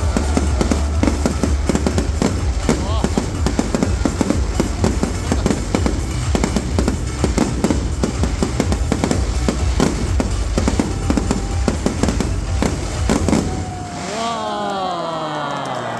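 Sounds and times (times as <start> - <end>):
fireworks bangs and crackles: 0.0 - 15.9
music playing: 0.0 - 15.9.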